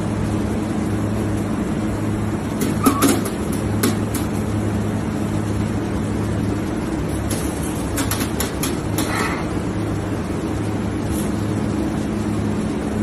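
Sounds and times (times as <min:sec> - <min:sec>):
mechanical hum with low drone: 0:00.0 - 0:13.0.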